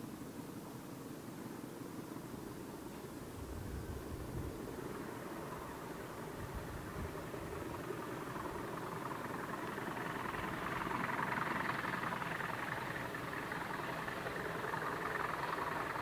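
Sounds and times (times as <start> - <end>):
diesel locomotive approaching: 1.3 - 16.0.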